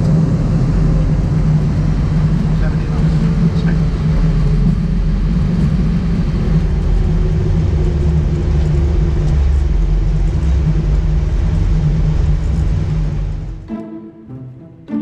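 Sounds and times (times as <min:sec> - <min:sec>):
aircraft engine and runway rumble: 0:00.0 - 0:15.0.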